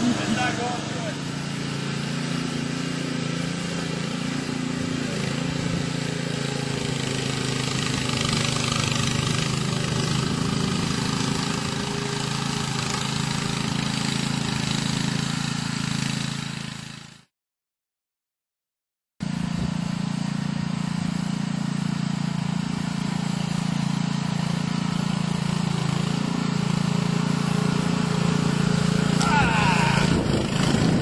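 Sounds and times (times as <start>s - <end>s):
small engine running: 0.0s - 17.3s, 19.2s - 31.0s.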